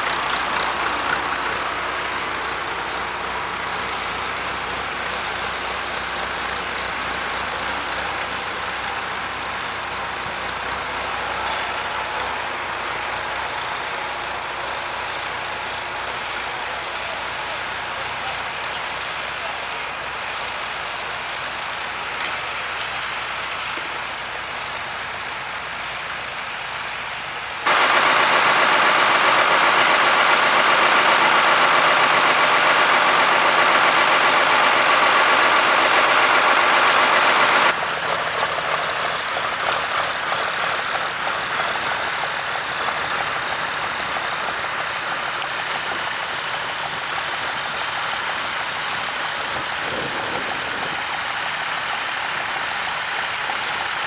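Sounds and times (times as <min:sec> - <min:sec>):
close loud engine drone: 0:00.0 - 0:54.0
tractor engines running: 0:00.0 - 0:54.0.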